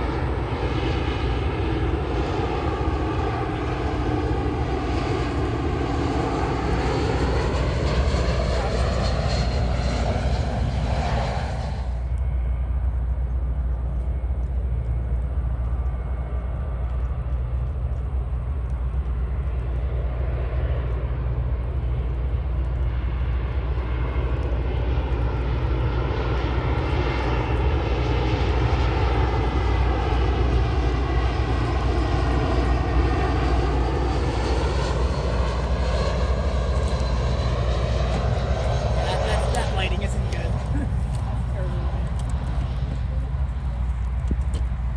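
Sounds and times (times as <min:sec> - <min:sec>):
jet airliner passing: 0:00.0 - 0:44.9.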